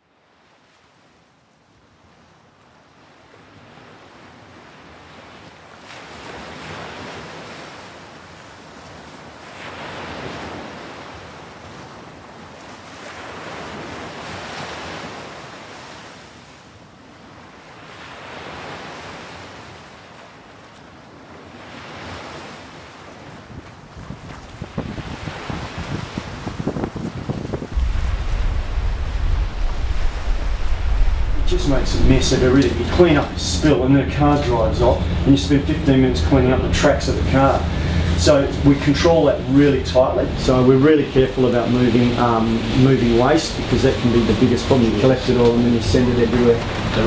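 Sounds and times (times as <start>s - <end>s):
sea waves washing ashore: 0.1s - 47.0s.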